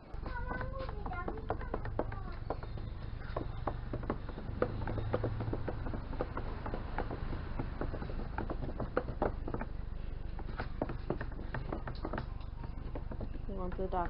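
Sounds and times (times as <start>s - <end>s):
stirrer knocking and scraping container: 0.2s - 14.0s.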